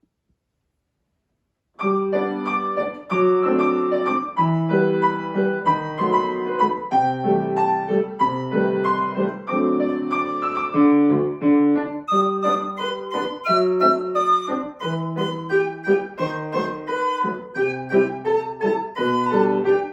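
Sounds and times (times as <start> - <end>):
lively piano piece: 1.8 - 19.9.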